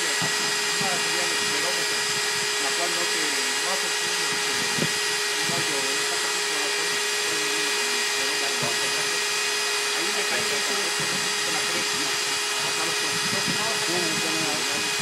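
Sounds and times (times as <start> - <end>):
core drill motor whine: 0.0 - 15.0
drill bit grinding concrete: 0.0 - 15.0.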